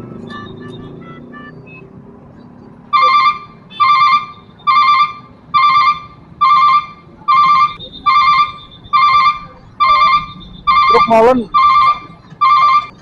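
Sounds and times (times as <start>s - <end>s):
low rumble of idling traffic: 0.0s - 13.0s.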